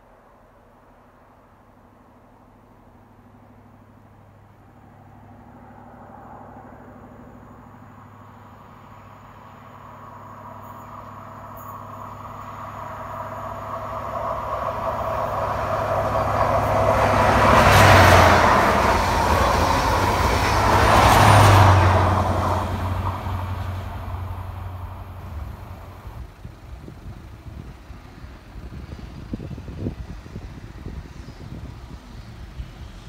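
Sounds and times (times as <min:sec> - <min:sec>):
diesel engine drone: 0:00.1 - 0:33.0
train wheels roaring on rails: 0:03.2 - 0:33.0.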